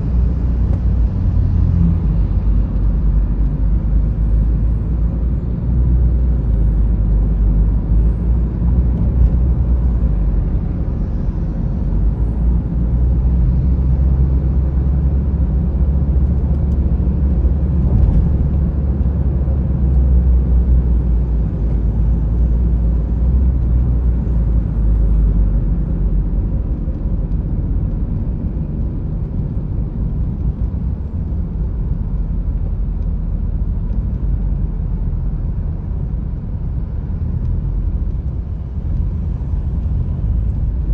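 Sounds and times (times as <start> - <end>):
car road rumble: 0.0 - 40.9.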